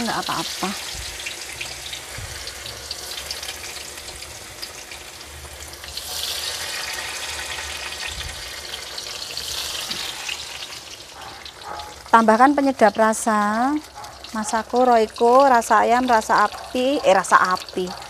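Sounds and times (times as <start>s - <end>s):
tofu sizzling in hot oil: 0.0s - 18.0s.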